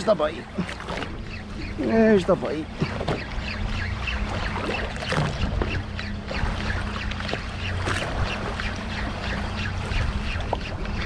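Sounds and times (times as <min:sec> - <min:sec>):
boat engine humming: 0:00.0 - 0:11.0
water splashing against hull: 0:00.0 - 0:11.0.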